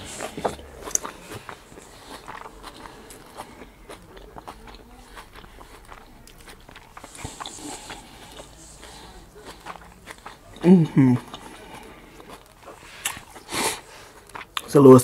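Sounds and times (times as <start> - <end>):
person chewing crunchy food: 0.0 - 14.8.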